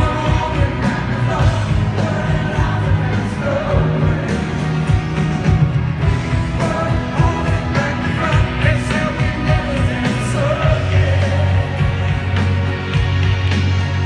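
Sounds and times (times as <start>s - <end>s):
lead vocal singing: 0.0s - 5.4s, 6.0s - 12.8s
bass notes: 0.0s - 14.0s
live rock band playing: 0.0s - 14.0s.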